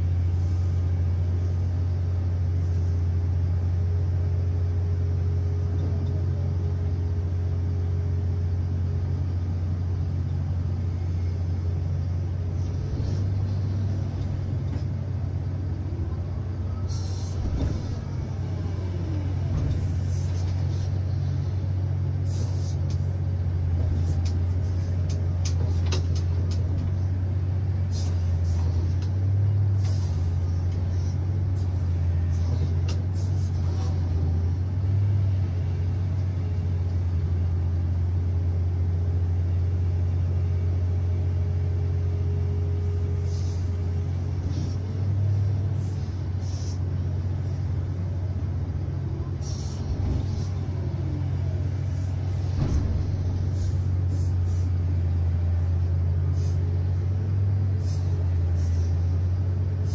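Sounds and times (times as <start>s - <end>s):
excavator engine and hydraulics drone: 0.0s - 59.9s.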